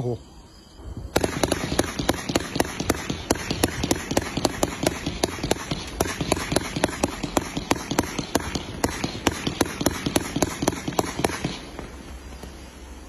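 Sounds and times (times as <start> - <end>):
fireworks cake firing rapid shots: 1.1 - 12.6
aerial firework bursts crackling: 1.1 - 13.0.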